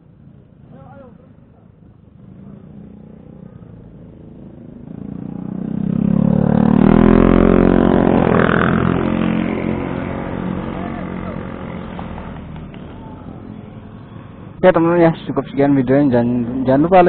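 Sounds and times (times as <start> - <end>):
motorcycle engine revving: 2.0 - 17.0.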